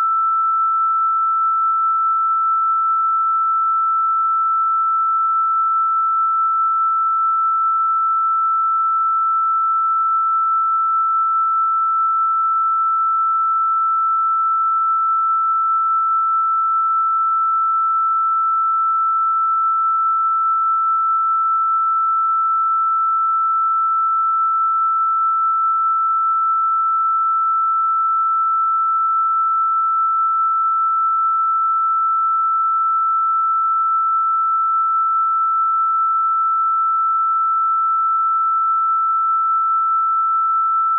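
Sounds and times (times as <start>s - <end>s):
steady high sine tone: 0.0s - 40.9s.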